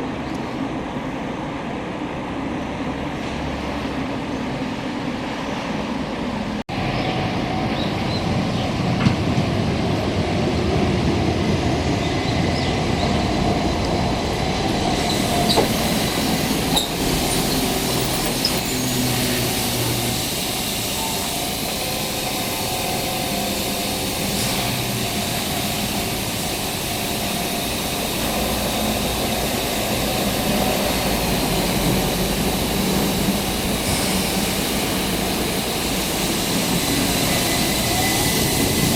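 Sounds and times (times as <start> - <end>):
electric train rumbling: 0.0 - 38.9.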